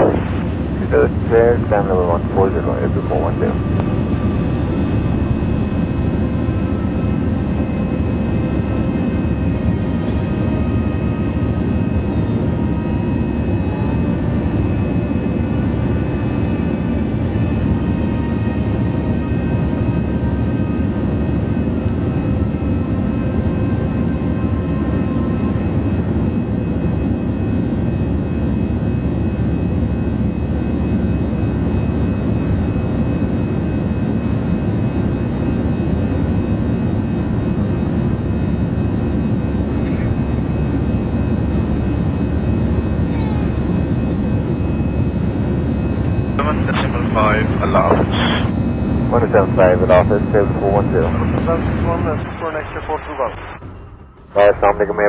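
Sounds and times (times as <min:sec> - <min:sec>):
aircraft cabin rumble: 0:00.0 - 0:53.6, 0:54.4 - 0:55.0
faint steady whines: 0:00.0 - 0:55.0.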